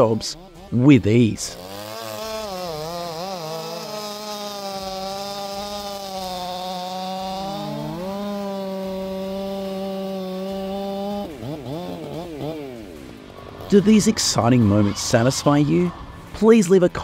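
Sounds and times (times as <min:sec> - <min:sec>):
chainsaw cutting log at high revs: 0:00.0 - 0:17.0.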